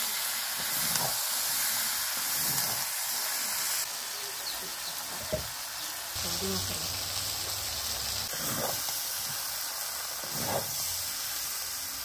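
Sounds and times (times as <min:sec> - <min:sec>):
chicken sizzling in wok: 0:00.0 - 0:12.0.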